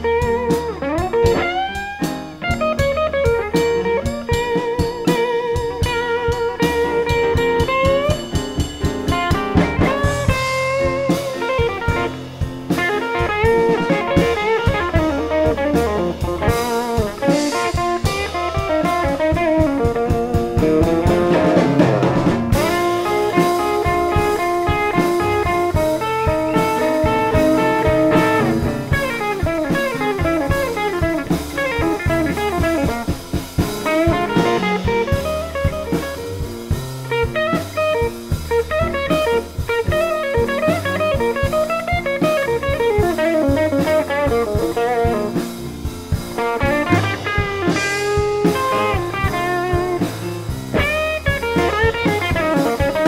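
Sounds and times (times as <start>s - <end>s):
drum kit steady beat: 0.0s - 53.0s
electric guitar lead lines: 0.0s - 53.0s
stage piano: 0.0s - 53.0s.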